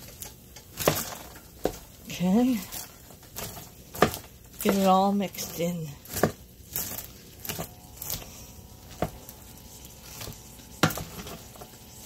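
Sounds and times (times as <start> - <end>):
wooden spoon stirring popcorn: 0.0 - 12.0.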